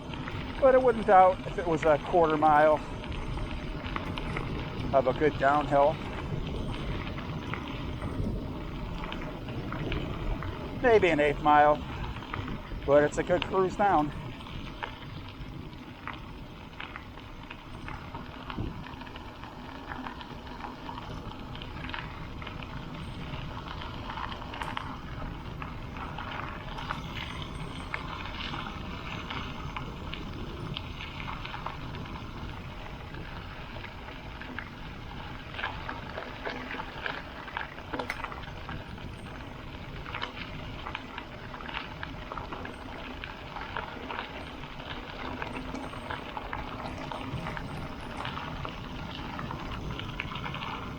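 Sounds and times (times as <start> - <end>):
bike tyres crunching over gravel: 0.0 - 50.9
stones pinging and crackling: 0.0 - 50.9
wind rumble on microphone: 0.0 - 50.9.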